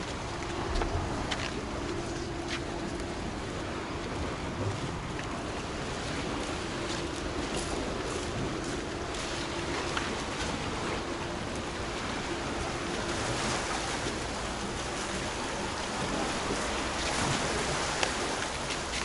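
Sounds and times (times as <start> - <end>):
sea waves: 0.0 - 19.0
wind: 0.0 - 19.0.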